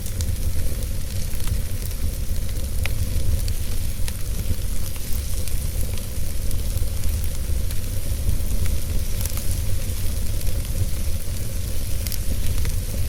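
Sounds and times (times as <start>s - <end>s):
burning wood crackling: 0.0s - 13.0s
flames rumbling in fireplace: 0.0s - 13.0s.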